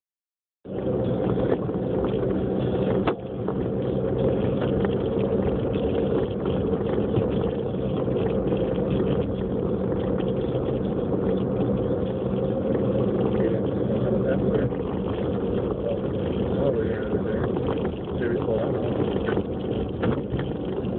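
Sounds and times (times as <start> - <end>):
engine hum: 0.6 - 20.9
tyre and road noise: 0.6 - 20.9.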